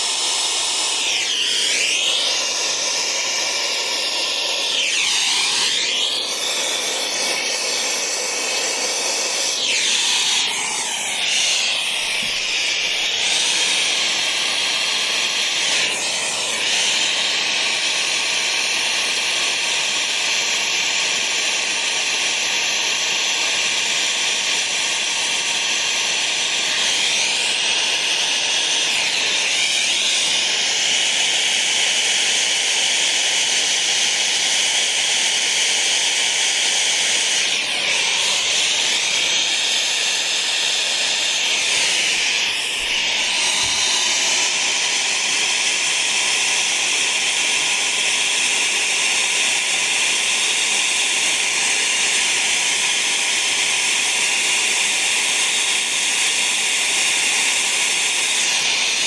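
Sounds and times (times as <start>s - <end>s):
torch burning with hiss: 0.0s - 59.0s.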